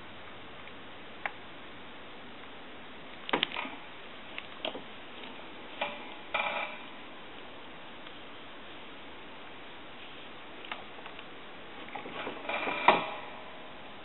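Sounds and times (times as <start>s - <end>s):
steady faint hiss: 0.0s - 14.0s.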